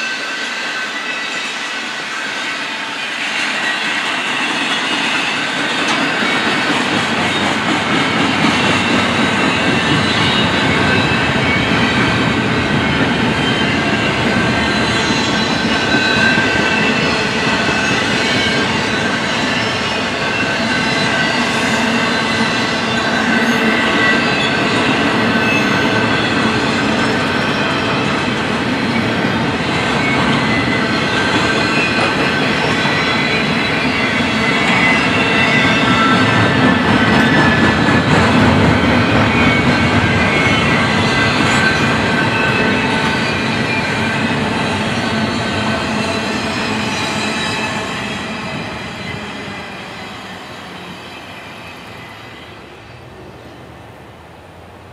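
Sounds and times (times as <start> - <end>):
high wheel squeal: 0.0 - 53.7
freight train wheels on rails: 0.0 - 54.9.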